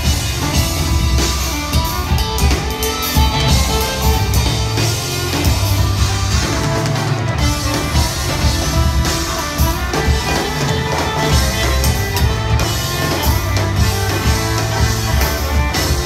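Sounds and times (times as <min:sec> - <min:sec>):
bass guitar: 0:00.0 - 0:16.0
drum kit: 0:00.0 - 0:16.0
electric guitar: 0:00.0 - 0:16.0
fiddle: 0:00.0 - 0:16.0.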